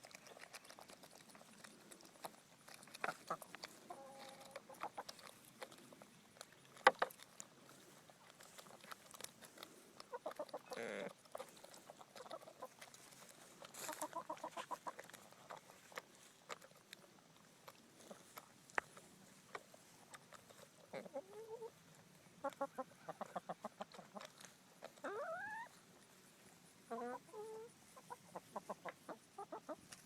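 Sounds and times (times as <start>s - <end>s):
chickens clucking: 0.0s - 6.2s, 6.8s - 16.6s, 18.0s - 30.0s.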